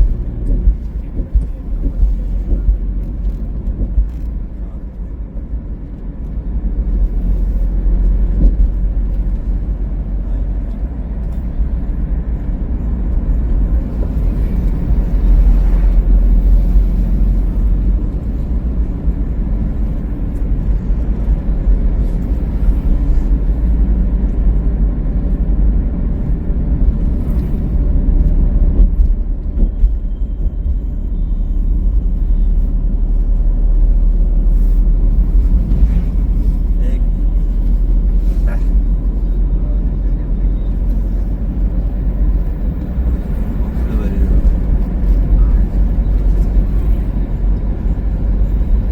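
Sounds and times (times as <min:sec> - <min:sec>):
tyre and wind rumble: 0:00.0 - 0:48.9.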